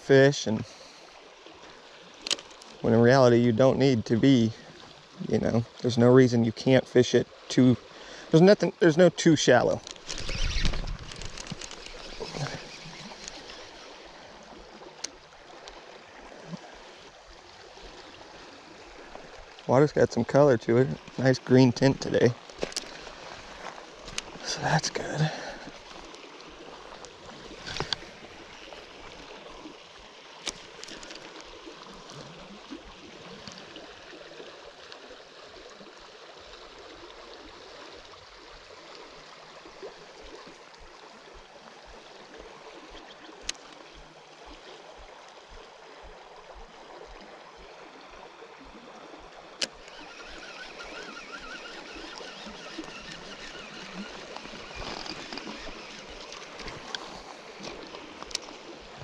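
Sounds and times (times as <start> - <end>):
river water rippling: 0.0 - 59.0.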